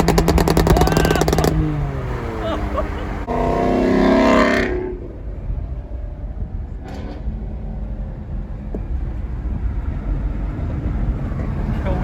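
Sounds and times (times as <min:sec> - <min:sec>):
car engines idling: 0:00.0 - 0:12.0.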